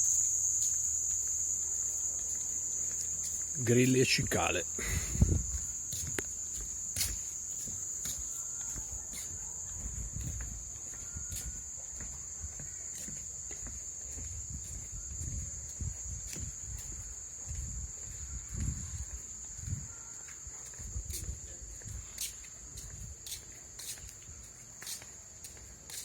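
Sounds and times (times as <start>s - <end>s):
crickets and cicadas trilling: 0.0s - 26.0s.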